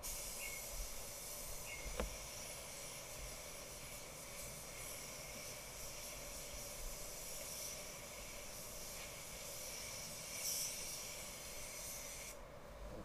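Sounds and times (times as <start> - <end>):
paint spray gun hissing: 0.0 - 12.4.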